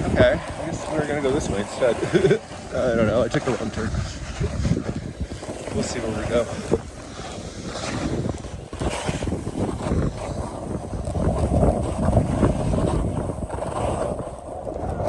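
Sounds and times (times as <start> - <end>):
skis scraping over packed snow: 0.0 - 15.0
wind on microphone: 0.0 - 15.0.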